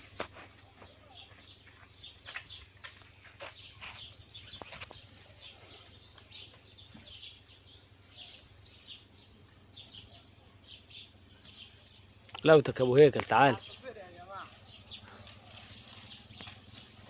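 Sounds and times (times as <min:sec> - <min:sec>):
sparrows chirping: 0:00.0 - 0:17.0.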